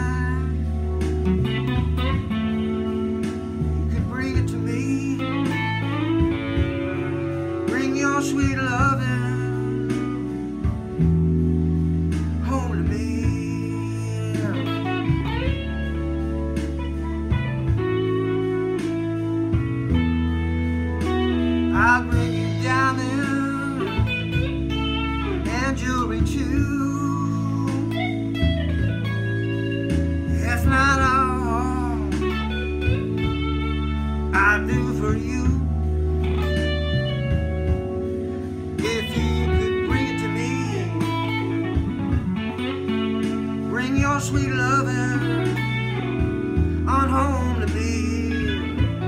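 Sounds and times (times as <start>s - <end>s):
electric guitar playing blues: 0.0s - 49.0s
low held bass notes: 0.0s - 49.0s.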